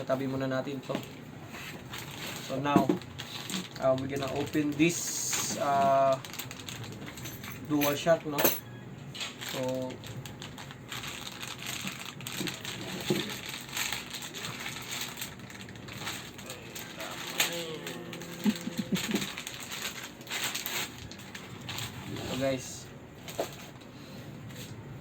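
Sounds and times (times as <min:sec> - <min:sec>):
packaging crinkling and rustling: 0:00.0 - 0:23.9.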